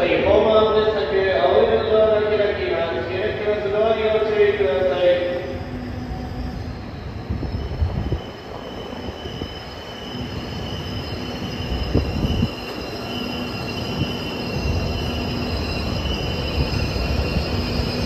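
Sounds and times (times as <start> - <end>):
train brakes squealing: 0.0 - 18.0
train rumble: 0.0 - 18.0.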